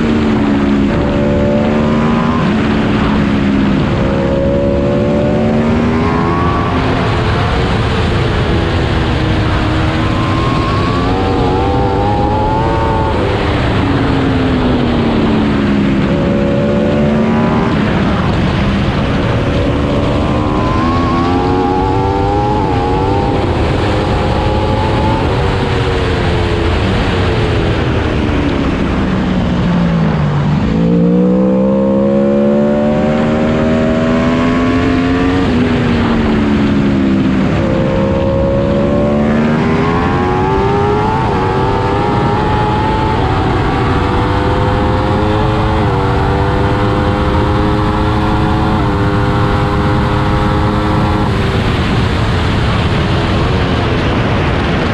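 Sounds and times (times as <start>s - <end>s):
motorcycle engine at speed: 0.0s - 54.9s
wind noise: 0.0s - 54.9s.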